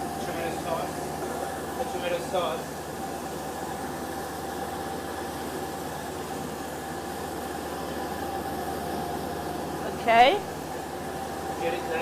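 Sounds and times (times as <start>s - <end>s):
kitchen ventilation humming: 0.0s - 12.0s.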